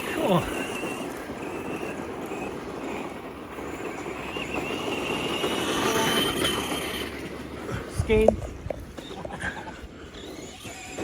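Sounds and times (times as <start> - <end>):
steady rushing noise: 0.0 - 11.0
toy truck electric motor whining: 0.0 - 11.0.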